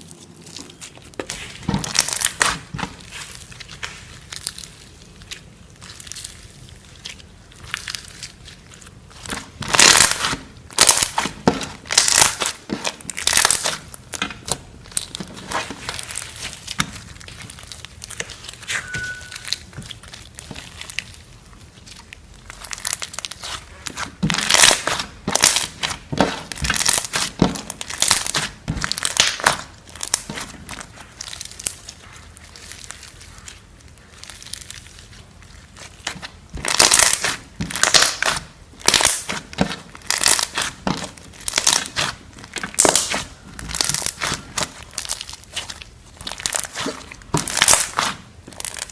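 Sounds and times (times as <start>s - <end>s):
foam bead slime crunching: 0.0s - 48.9s
slime squishing: 0.0s - 48.9s.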